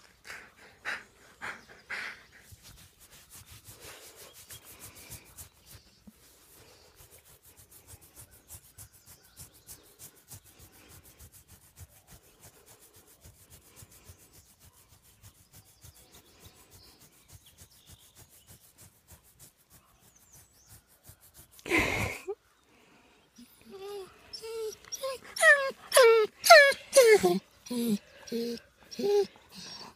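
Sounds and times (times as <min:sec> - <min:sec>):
hand rubbing fur: 0:01.6 - 0:22.2, 0:23.6 - 0:29.9.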